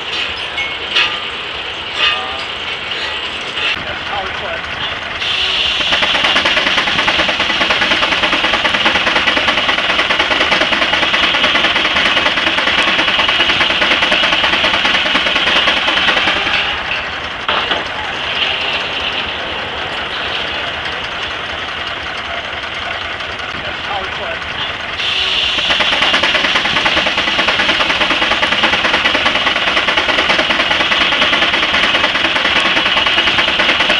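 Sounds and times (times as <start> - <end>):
steam traction engine running: 0.0 - 33.9.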